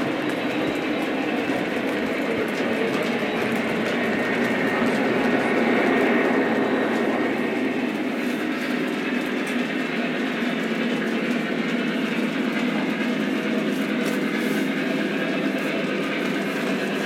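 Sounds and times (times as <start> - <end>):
model train wheels rumbling on rail: 0.0 - 17.0.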